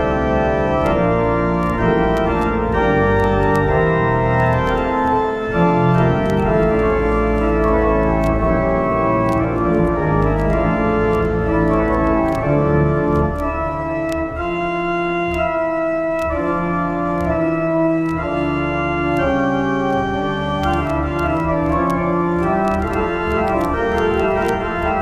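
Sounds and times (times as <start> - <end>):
church organ playing chords: 0.0 - 25.0.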